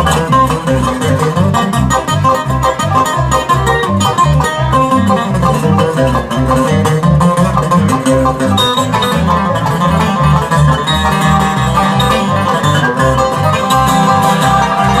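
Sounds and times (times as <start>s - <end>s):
bluegrass banjo and guitar music: 0.0s - 15.0s.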